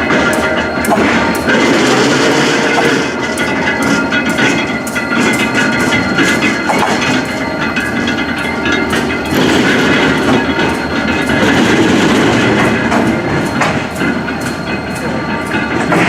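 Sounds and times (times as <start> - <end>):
train rumbling on rails: 0.0 - 16.0
wheel clacks and knocks: 0.0 - 16.0.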